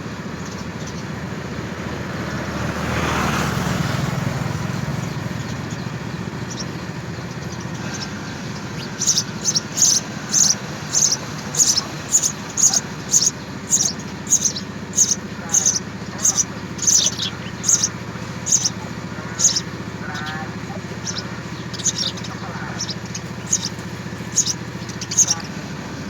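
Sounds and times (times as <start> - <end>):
sparrow chirping: 0.0 - 26.0.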